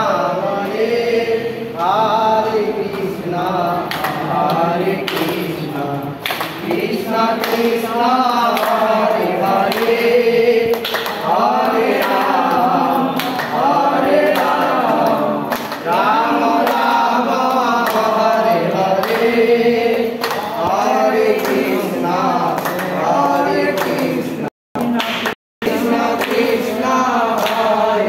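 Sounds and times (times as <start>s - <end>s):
group singing a devotional chant: 0.0s - 28.0s
hand claps: 2.8s - 28.0s.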